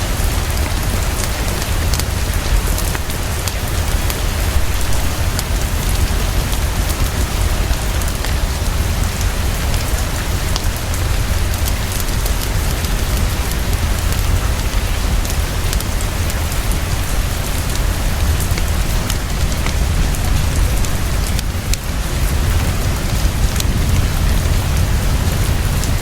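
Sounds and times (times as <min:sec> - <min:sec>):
deep low rumble: 0:00.0 - 0:26.0
heavy rain pouring: 0:00.0 - 0:26.0.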